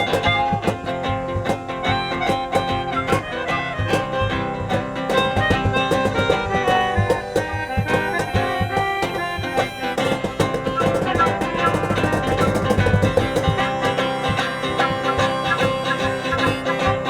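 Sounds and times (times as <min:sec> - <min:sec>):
acoustic street band playing: 0:00.0 - 0:17.0.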